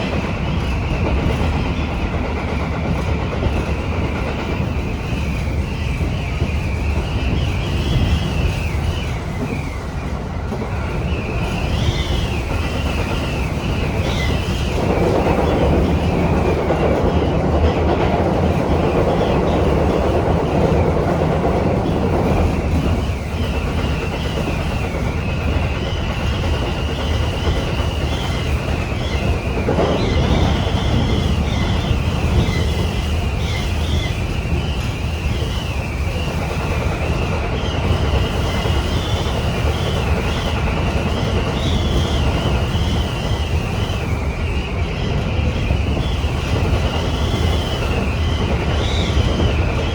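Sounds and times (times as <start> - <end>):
train carriage rumbling on rails: 0.0 - 49.9
wind whistling: 0.0 - 49.9.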